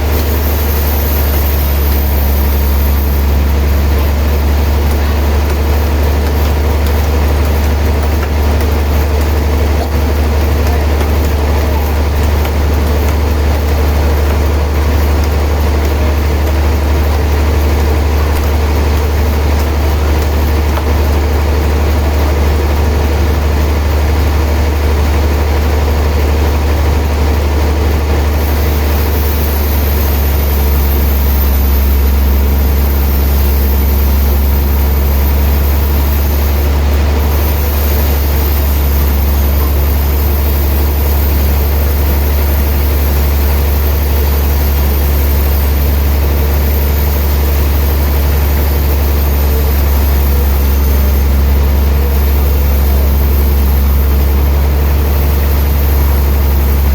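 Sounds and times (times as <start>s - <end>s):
sawmill machinery humming: 0.0s - 56.9s.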